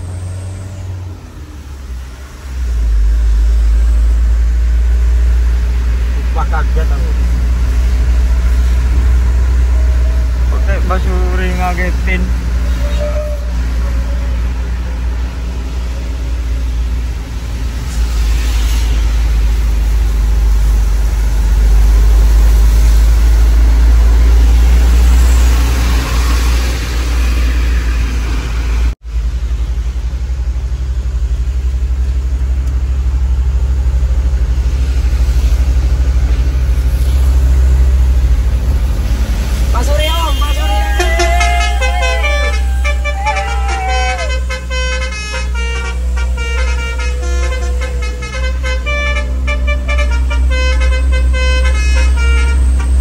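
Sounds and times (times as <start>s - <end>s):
road noise: 0.0s - 53.0s
truck engine rumble: 0.0s - 53.0s.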